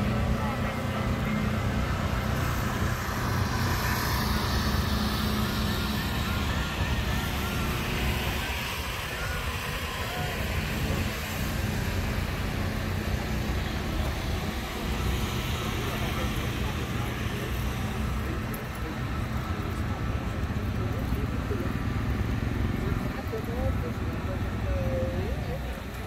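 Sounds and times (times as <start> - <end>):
engine droning: 0.0 - 26.0
faint voices: 0.0 - 26.0.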